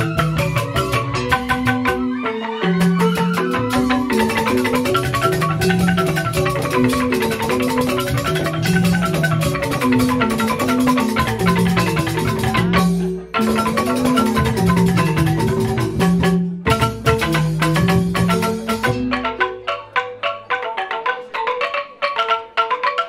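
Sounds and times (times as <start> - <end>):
bamboo xylophone ensemble: 0.0 - 23.0.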